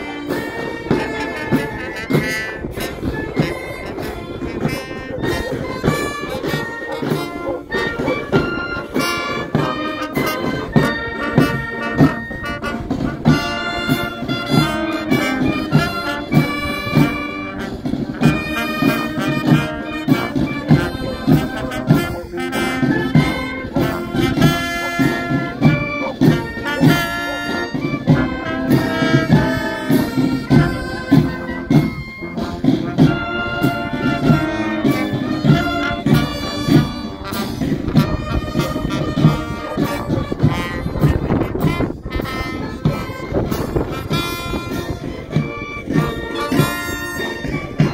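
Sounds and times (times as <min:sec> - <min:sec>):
brass band music: 0:00.0 - 0:47.9
steady drum beat: 0:00.0 - 0:47.9.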